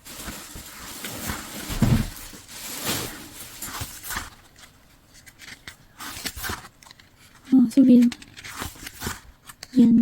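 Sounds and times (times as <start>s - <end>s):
packaging rustling: 0.0s - 9.8s.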